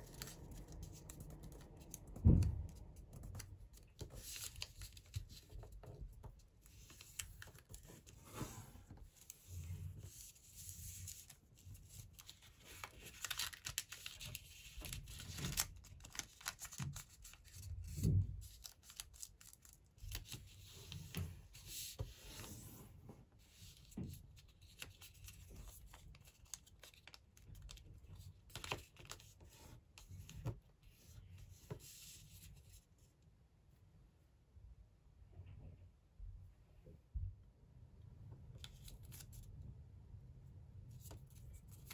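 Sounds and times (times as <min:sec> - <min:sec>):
paper being folded and creased: 0:00.0 - 0:32.8, 0:38.6 - 0:39.5, 0:41.0 - 0:41.9.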